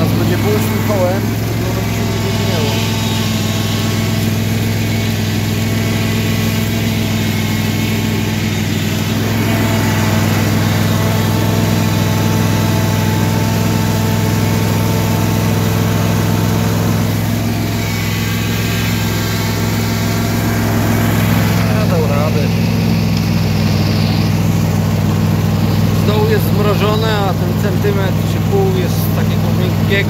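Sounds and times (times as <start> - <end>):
garden tractor engine running: 0.0 - 30.0.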